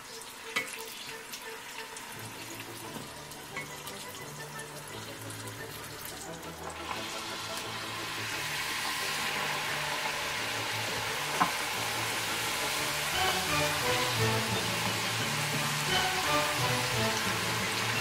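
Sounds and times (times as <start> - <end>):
dough sizzling in hot oil: 0.0 - 18.0.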